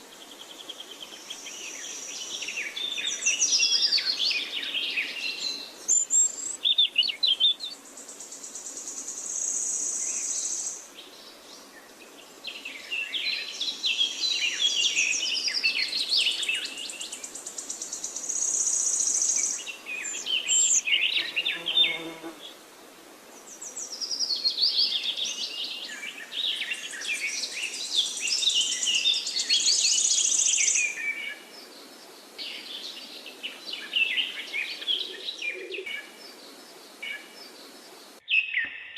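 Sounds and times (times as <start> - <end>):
birds chirping and warbling: 0.4 - 22.6, 23.4 - 38.9.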